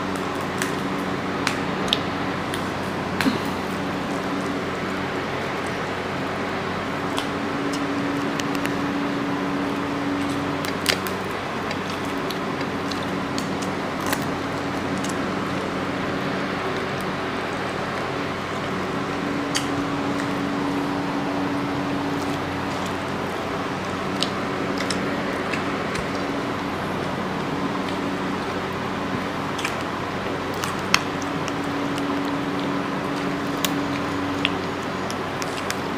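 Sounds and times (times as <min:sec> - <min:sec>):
eating clicks and smacks: 0:00.0 - 0:35.9
fan hum and hiss: 0:00.0 - 0:35.9.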